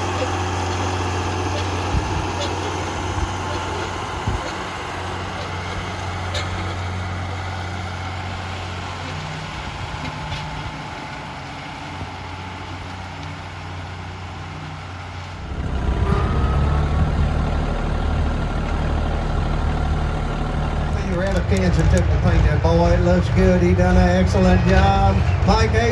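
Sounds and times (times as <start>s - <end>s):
heavy vehicle engine idling and revving: 0.0s - 25.9s.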